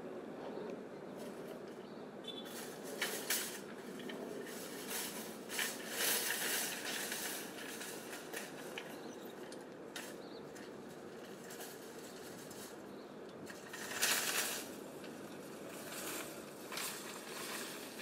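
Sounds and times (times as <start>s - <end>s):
shopping carts clanking and rattling: 2.4s - 18.0s.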